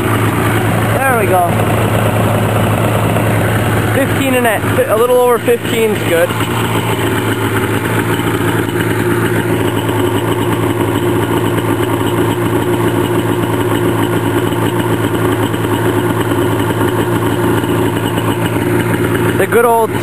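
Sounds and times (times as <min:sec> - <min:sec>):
two-stroke engine idling: 0:00.0 - 0:20.0.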